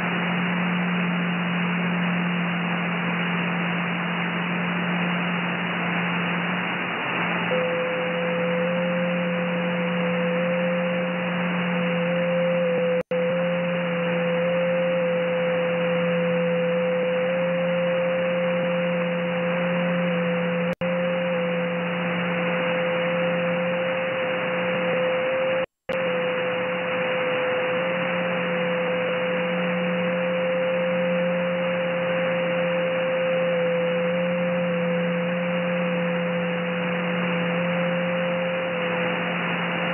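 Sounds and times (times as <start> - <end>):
low hum: 0.0 - 39.9
radio band noise hiss: 0.0 - 39.9
steady mid-pitched radio tone: 0.0 - 39.9.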